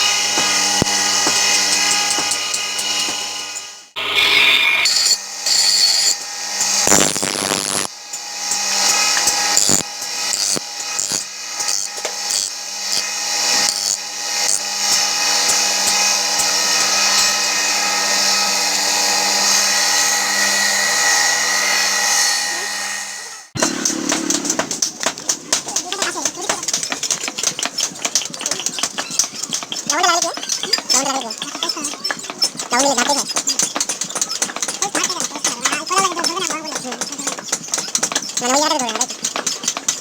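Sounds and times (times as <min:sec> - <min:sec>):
power grinder grinding steel: 0:00.0 - 0:40.0.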